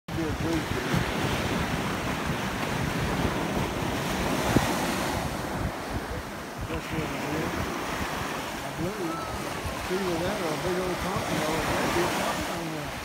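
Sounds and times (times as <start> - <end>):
surf breaking on beach: 0.1 - 13.0
wind buffeting microphone: 0.1 - 13.0.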